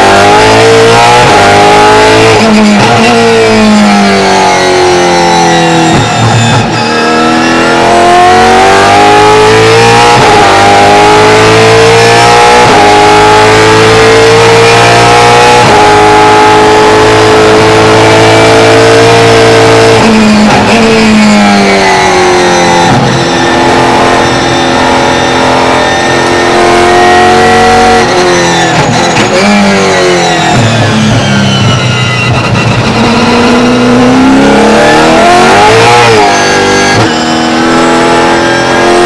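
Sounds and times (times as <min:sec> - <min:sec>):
race car engine accelerating: 0:00.0 - 0:39.0.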